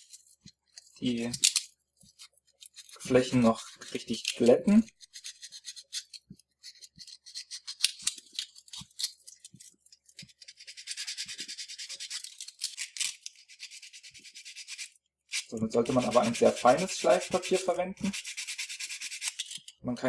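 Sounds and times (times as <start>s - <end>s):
sandpaper scratching plastic: 0.0s - 19.6s.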